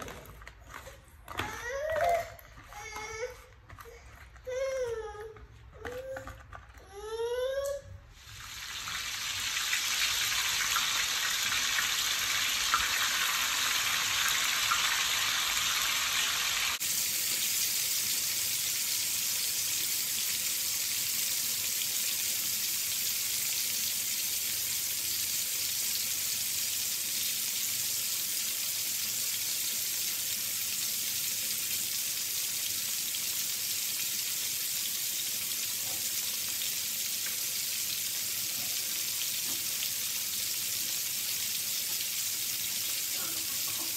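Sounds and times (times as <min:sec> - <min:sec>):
fish sizzling in oil: 0:08.2 - 0:43.9.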